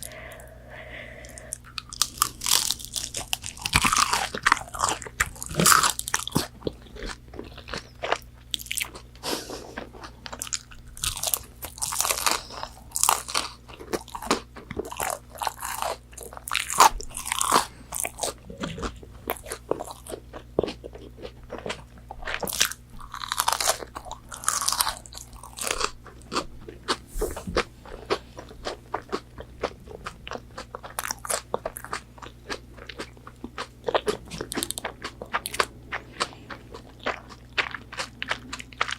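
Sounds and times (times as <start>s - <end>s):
crunchy food chewing: 1.3s - 38.9s.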